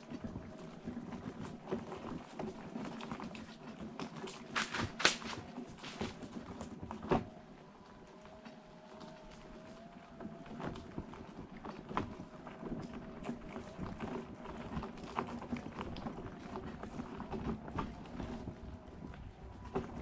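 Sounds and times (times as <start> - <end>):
wheels crunching over gravel: 0.0 - 20.0.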